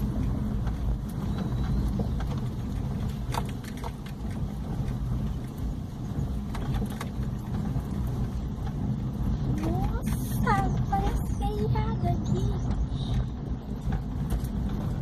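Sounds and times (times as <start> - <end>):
car engine and tyre rumble: 0.0 - 15.0
light clicks and rattles: 0.0 - 15.0.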